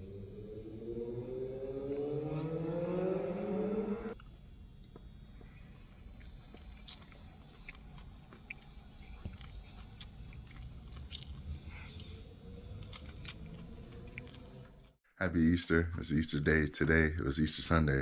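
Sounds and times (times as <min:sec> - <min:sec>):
low steady rumble: 0:00.0 - 0:14.9.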